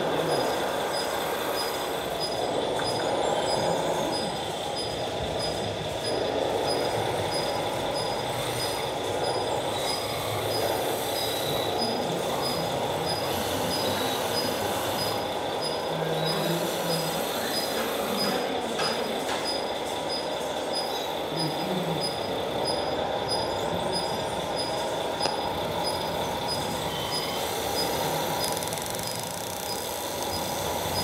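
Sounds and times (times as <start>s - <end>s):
electric motors whirring and grinding: 0.0s - 31.0s.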